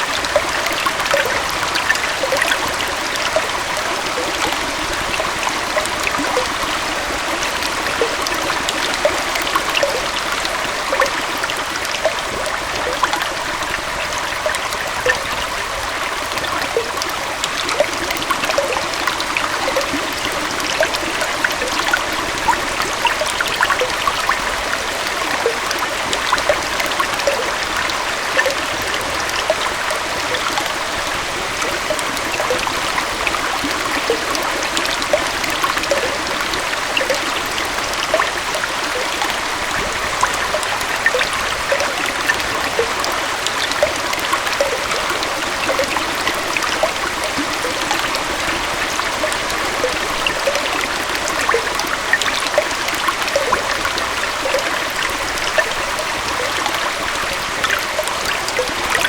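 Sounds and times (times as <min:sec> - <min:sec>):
waterfall and stream flowing: 0:00.0 - 0:59.0.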